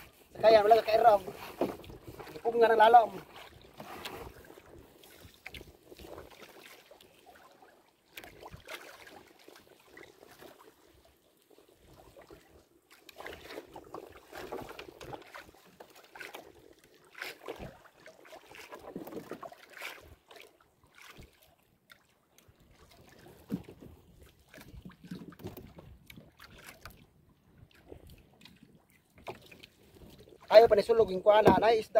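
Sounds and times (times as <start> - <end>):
water slapping boat hull: 0.0 - 31.9.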